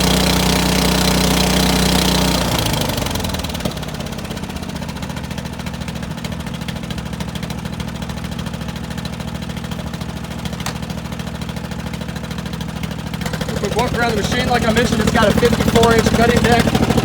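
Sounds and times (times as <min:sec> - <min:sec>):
garden tractor engine idling: 0:00.0 - 0:17.0.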